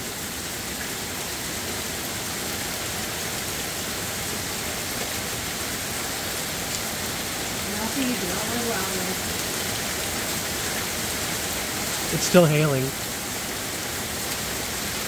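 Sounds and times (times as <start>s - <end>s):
torrential rain and hail: 0.0s - 15.0s.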